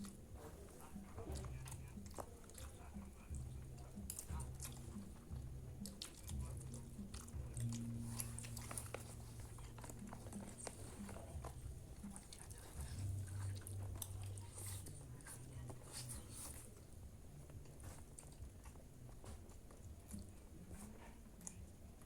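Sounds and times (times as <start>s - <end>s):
chewing and biting food: 0.0s - 21.8s.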